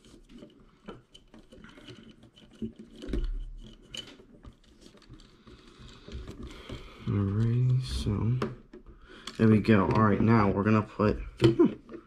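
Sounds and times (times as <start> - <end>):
small clicks and scrapes: 0.0 - 10.6.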